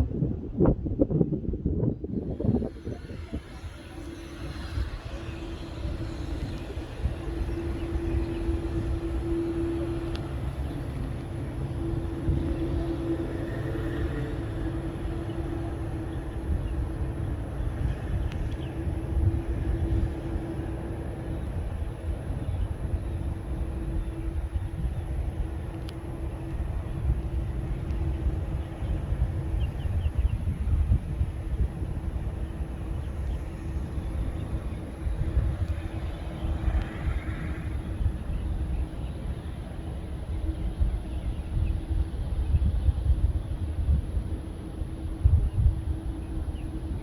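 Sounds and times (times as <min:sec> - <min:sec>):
jet engines running: 0:00.0 - 0:47.0.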